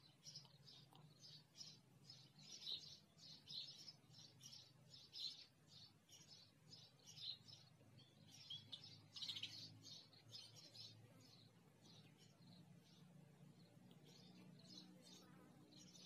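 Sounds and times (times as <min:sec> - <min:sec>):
low steady hum: 0:00.0 - 0:16.0
sparrows chirping: 0:00.0 - 0:16.0.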